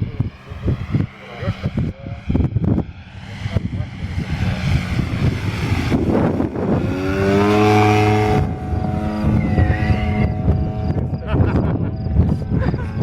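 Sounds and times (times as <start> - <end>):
model aircraft engine running: 0.0 - 13.0.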